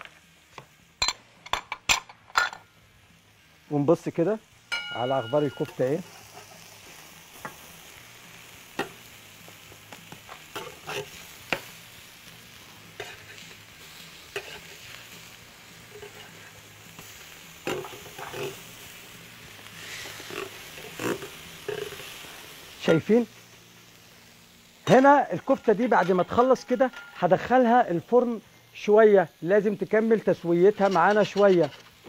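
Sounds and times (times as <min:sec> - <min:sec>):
patties sizzling on grill pan: 0:00.0 - 0:32.0.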